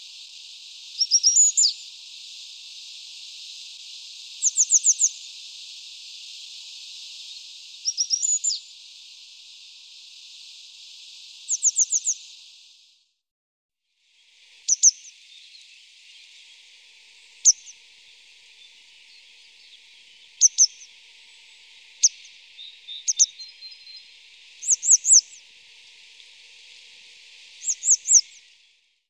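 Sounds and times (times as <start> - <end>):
birds chirping: 0.0 - 12.4, 14.7 - 28.6
steady high hiss: 0.0 - 13.1, 14.0 - 29.0.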